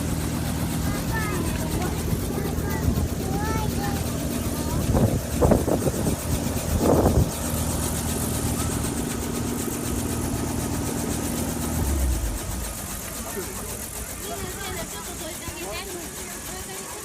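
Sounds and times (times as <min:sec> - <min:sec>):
low rumble: 0:00.0 - 0:14.9
engine running: 0:00.0 - 0:17.0.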